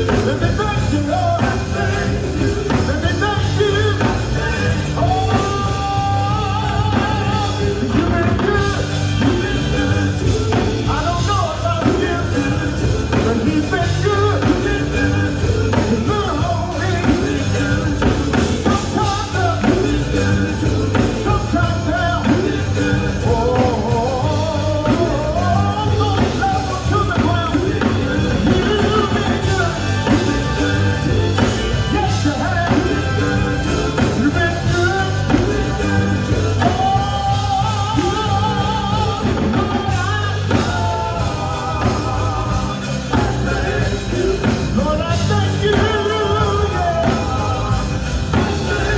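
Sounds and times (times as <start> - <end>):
gospel band playing: 0.0 - 48.9
person singing in long runs: 0.0 - 48.9.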